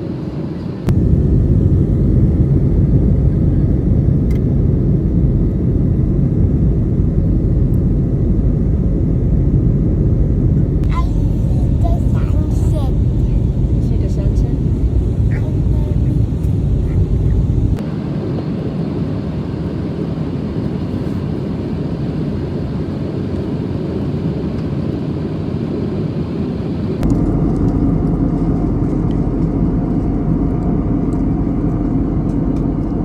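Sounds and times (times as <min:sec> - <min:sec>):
airliner cabin engine rush: 0:00.0 - 0:33.0.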